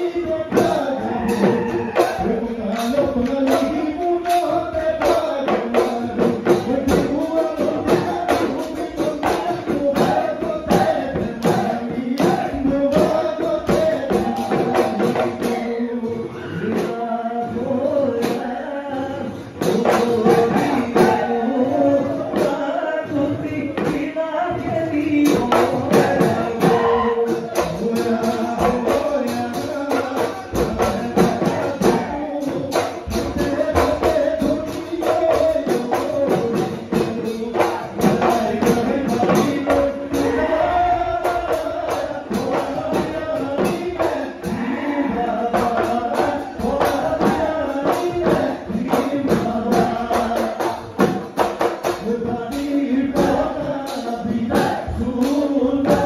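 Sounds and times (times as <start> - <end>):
drums beaten fast: 0.0 - 56.0
men singing: 0.0 - 56.0.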